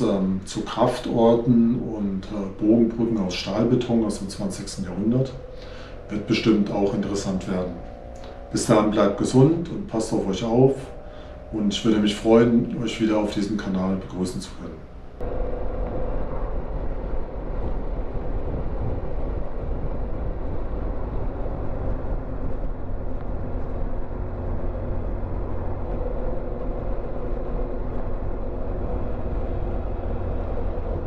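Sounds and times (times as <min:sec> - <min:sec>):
motorcycle engine droning: 0:00.0 - 0:31.0
wind and road noise: 0:00.0 - 0:31.0.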